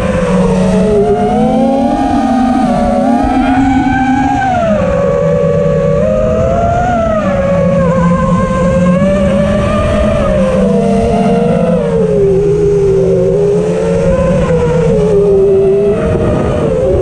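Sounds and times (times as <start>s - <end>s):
low rumbling hum: 0.0s - 17.0s
quadcopter propellers whining: 0.0s - 17.0s.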